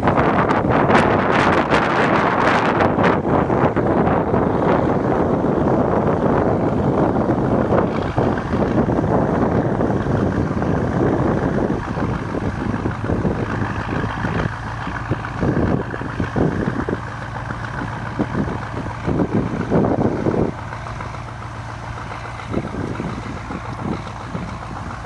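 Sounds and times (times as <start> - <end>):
diesel locomotives humming: 0.0 - 25.0
wind gusting on microphone: 0.0 - 25.0.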